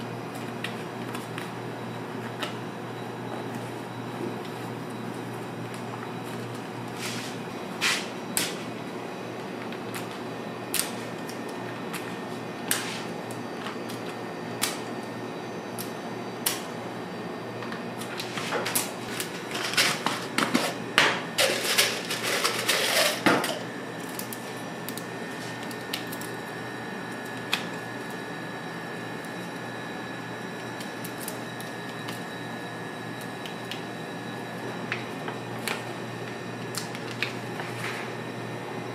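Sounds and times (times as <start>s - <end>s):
room hum: 0.0s - 38.9s.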